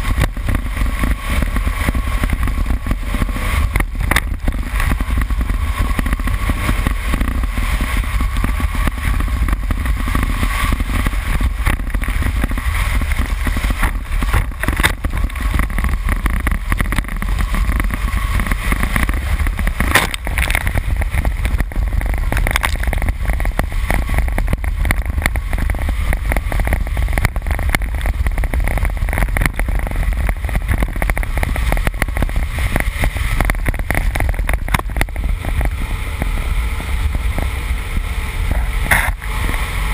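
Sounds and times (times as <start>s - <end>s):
car engine running hard: 0.0s - 39.9s
dirt and mud pelting car: 0.0s - 39.9s
wind buffeting: 0.0s - 39.9s.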